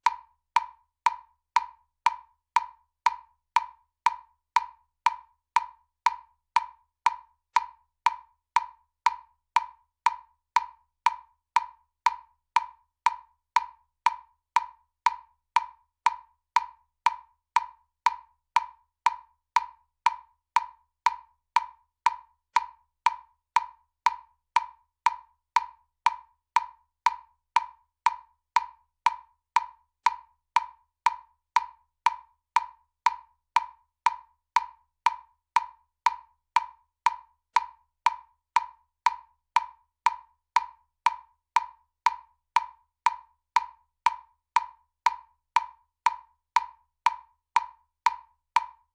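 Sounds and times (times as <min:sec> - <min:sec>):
metronome clicking: 0:00.0 - 0:48.9.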